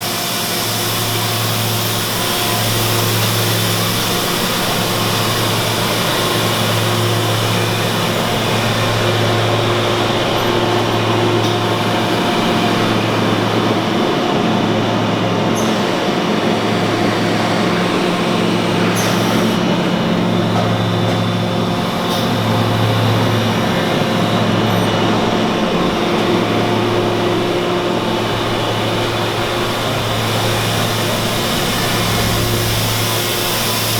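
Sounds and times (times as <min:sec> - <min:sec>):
machining center humming: 0:00.0 - 0:33.9.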